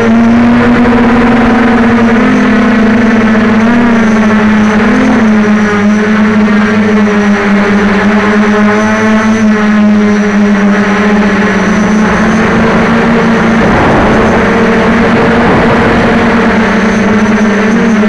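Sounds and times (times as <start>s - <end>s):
quadcopter propellers buzzing: 0.0s - 18.0s.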